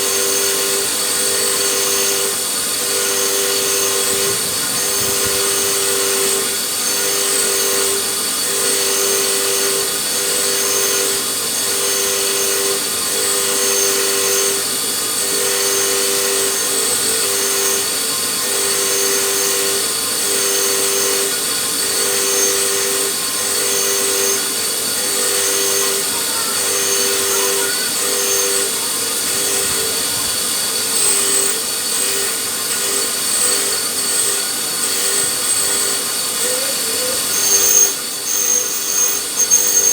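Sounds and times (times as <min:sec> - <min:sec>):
power tool running: 0:00.0 - 0:39.9.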